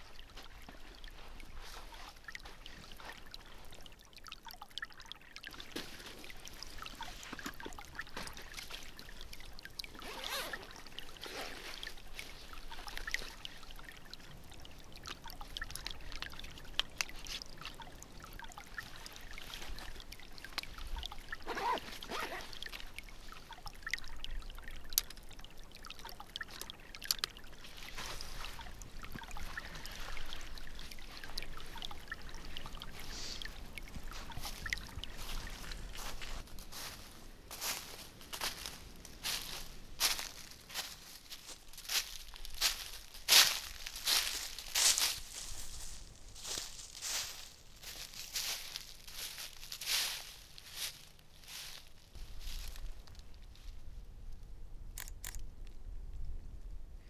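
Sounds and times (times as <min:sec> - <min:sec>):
creek trickling: 0:00.0 - 0:55.8.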